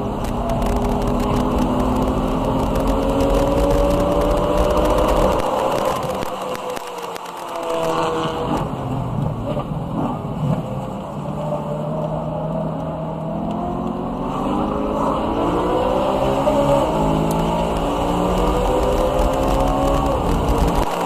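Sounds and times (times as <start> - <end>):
car engine running hard: 0.0 - 21.0.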